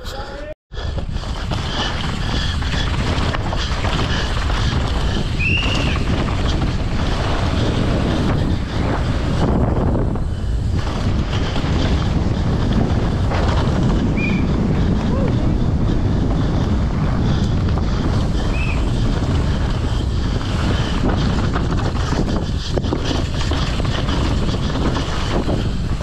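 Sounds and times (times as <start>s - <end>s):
mountain bike rumble and rattle: 0.7s - 26.0s
wind buffeting microphone: 0.7s - 26.0s.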